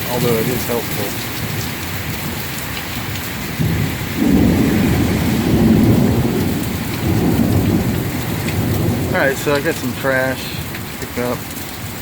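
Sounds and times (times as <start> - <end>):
thunder rumbling: 0.0 - 11.5
heavy rain falling: 0.0 - 12.0.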